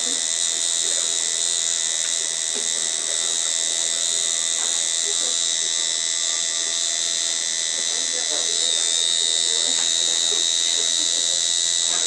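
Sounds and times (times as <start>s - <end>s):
tattoo machine buzzing: 0.0s - 12.0s.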